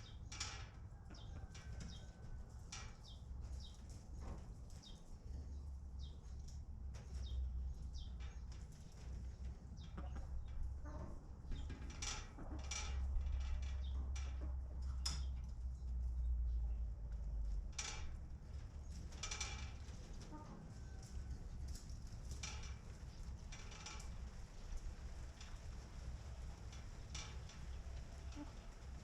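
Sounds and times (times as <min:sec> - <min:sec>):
low steady rumble: 0:00.0 - 0:29.0.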